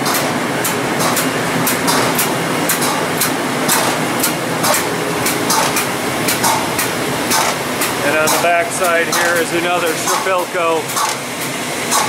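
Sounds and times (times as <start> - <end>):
machinery running: 0.0 - 12.0.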